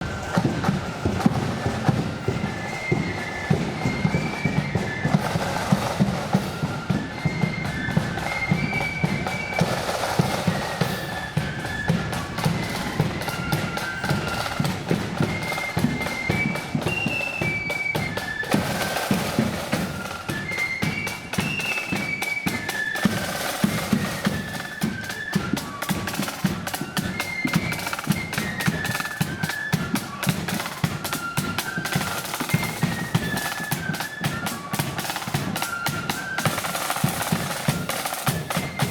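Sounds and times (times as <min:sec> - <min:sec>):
flute melody: 0:00.0 - 0:38.9
rapid snare drum strokes: 0:00.0 - 0:38.9.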